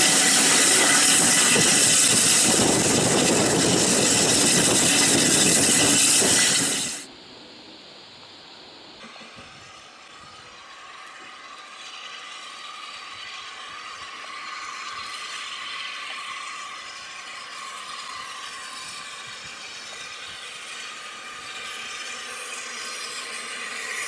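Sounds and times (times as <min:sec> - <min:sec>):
steam locomotive running: 0:00.0 - 0:24.0.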